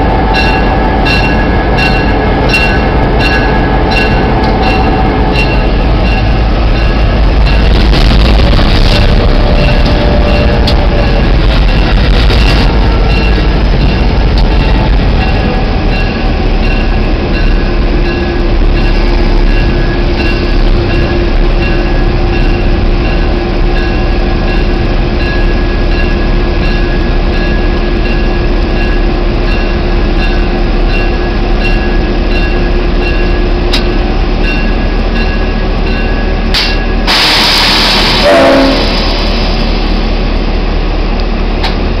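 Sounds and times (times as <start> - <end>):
diesel locomotive engine running: 0.0 - 42.0.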